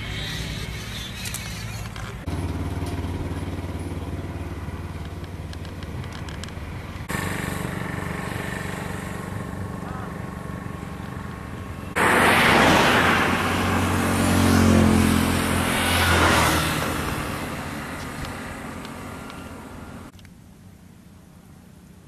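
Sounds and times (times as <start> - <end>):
vehicle engine passing by: 0.0 - 20.1.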